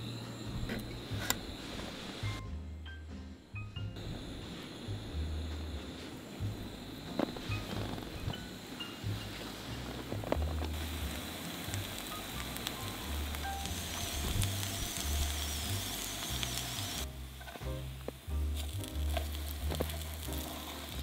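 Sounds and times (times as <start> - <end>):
pancakes sizzling in oil: 4.1 - 21.0.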